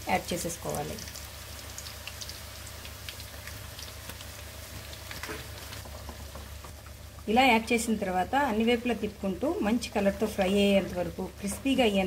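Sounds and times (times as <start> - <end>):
slices deep-frying in oil: 0.0 - 12.0
small crackles of frying: 0.0 - 12.0.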